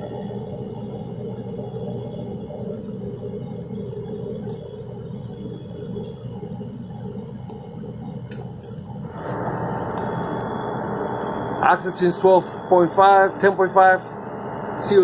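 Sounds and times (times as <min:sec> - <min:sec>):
furnace burner and blower rumble: 0:00.0 - 0:15.0.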